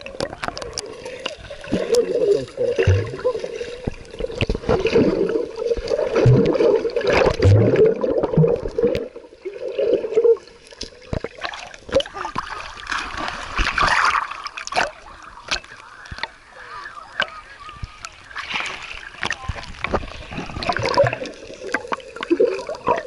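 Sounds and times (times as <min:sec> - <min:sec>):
sea water splashing and sloshing: 0:00.0 - 0:23.0.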